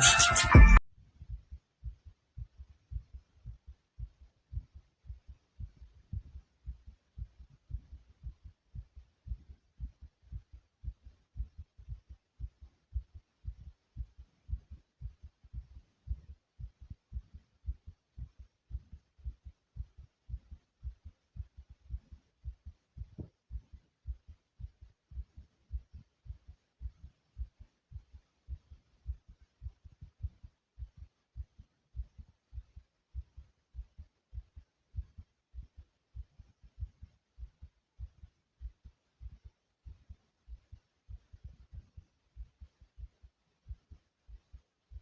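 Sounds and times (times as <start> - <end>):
fast pounding heartbeat: 0.6 - 45.0.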